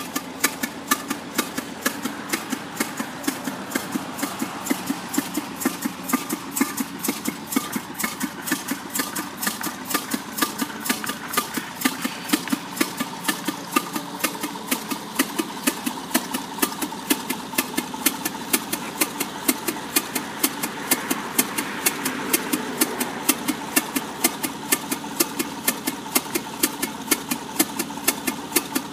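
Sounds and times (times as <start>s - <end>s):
steam engine running: 0.0s - 28.9s.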